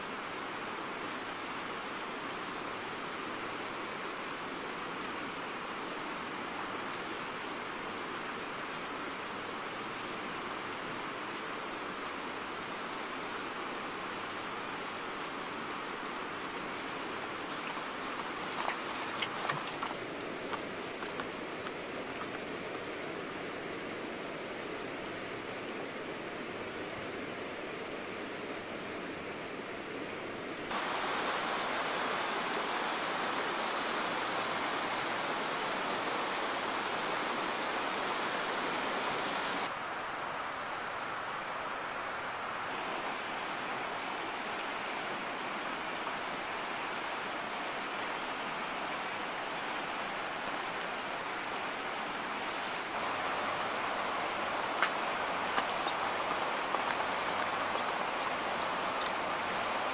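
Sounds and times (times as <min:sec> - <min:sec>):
constant rushing hiss: 0:00.0 - 0:59.9
insects trilling: 0:00.0 - 0:59.9.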